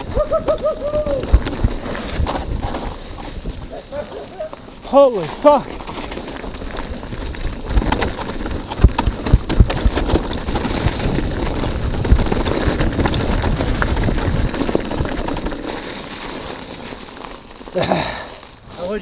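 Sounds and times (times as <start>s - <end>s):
tyres crunching over leaves: 0.6s - 19.0s.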